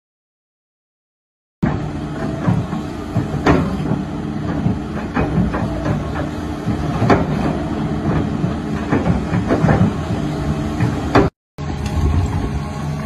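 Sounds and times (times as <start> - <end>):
excavator diesel engine running: 1.6 - 13.0.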